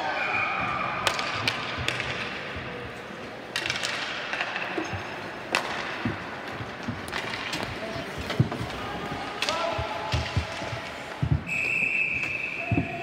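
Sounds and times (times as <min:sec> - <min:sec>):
hockey sticks hitting puck: 0:00.7 - 0:11.5.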